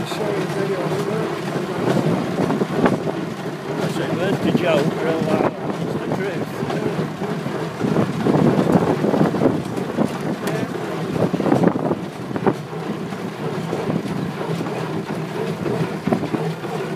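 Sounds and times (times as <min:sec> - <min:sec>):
tractor engine running: 0:00.0 - 0:16.9
wind buffeting microphone: 0:00.0 - 0:16.9.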